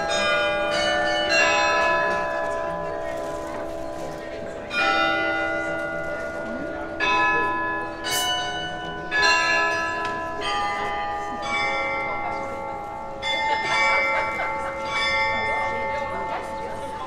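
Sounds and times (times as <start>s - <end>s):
glockenspiel bells playing melody: 0.0s - 17.0s.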